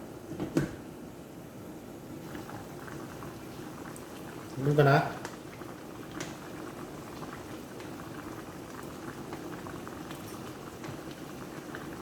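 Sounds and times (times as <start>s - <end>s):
pot bubbling: 2.0s - 12.0s.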